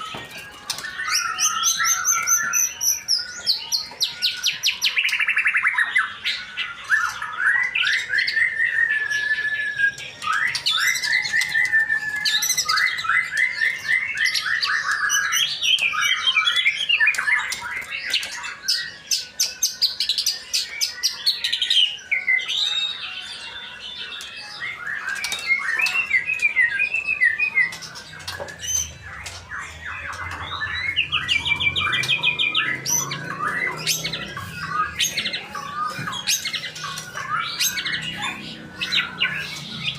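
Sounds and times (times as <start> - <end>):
bird singing whistled phrases and trills: 0.0 - 39.9.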